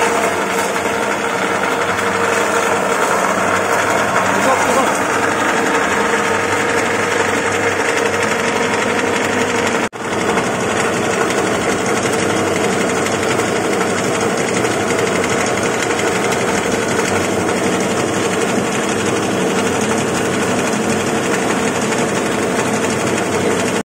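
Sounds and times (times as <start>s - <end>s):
mill machine whirring: 0.0s - 23.8s.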